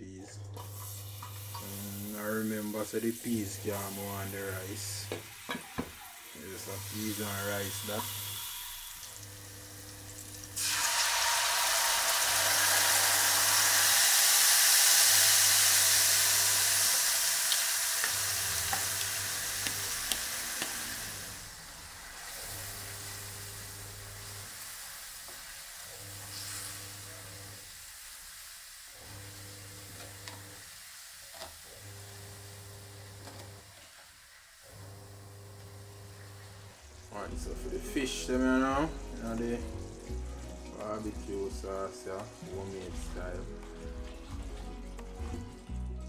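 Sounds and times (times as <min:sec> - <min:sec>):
cooktop humming: 0:00.0 - 0:46.0
sauce sizzling in a frying pan: 0:00.6 - 0:45.8.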